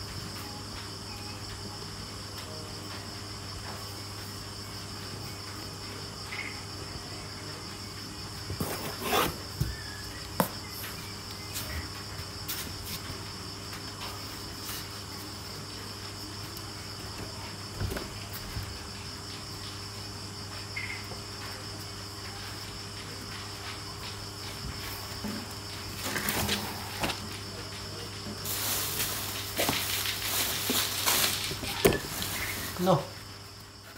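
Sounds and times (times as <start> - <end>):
night insects chirring: 0.0 - 33.9.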